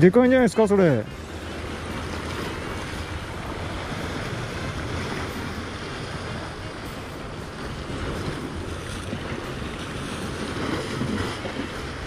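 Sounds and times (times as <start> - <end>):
sea waves: 0.0 - 12.0
wind buffeting microphone: 1.0 - 12.0.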